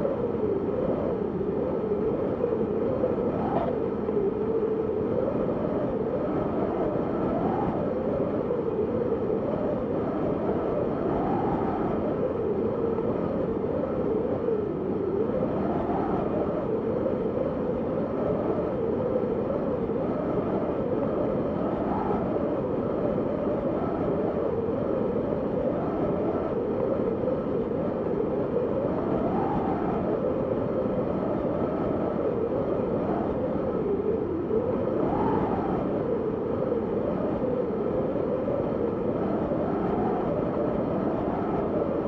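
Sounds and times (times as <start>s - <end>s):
wind howling: 0.0s - 42.0s.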